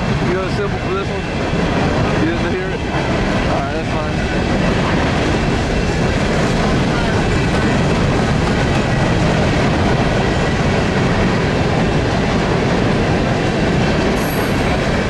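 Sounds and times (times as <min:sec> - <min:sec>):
steel train wheels rolling on rails: 0:00.0 - 0:15.0.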